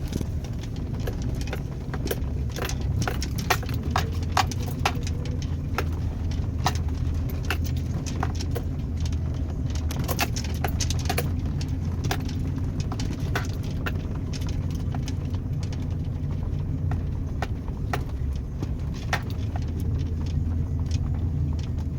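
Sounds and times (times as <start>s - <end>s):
irregular clicks and rattles: 0.0s - 21.9s
truck engine running: 0.0s - 21.9s.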